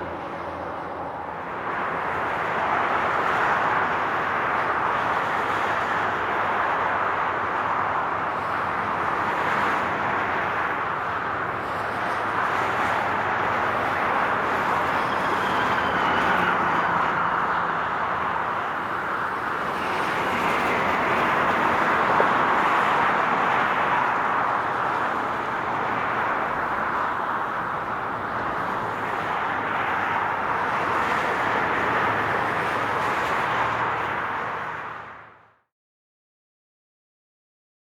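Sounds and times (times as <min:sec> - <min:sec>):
highway traffic rushing: 0:00.0 - 0:35.6.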